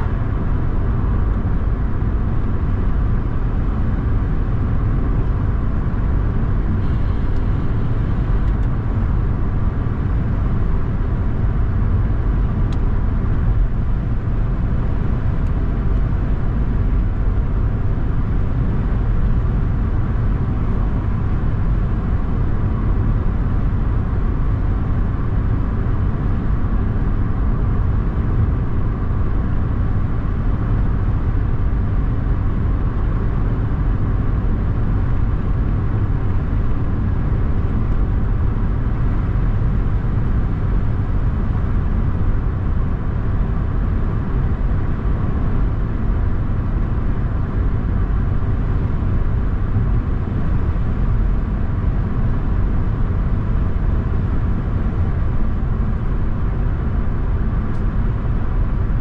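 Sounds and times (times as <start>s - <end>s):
car engine rumble: 0.0s - 59.0s.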